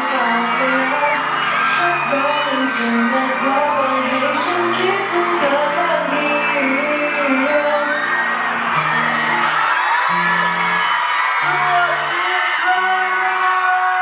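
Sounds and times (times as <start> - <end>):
crowd whooping and cheering: 0.0 - 14.0
pop song with singing: 0.0 - 14.0.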